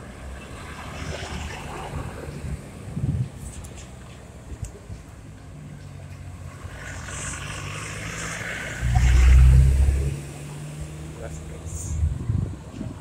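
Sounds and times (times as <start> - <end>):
road traffic: 0.0 - 13.0
vehicle passing with engine rumble: 0.0 - 13.0.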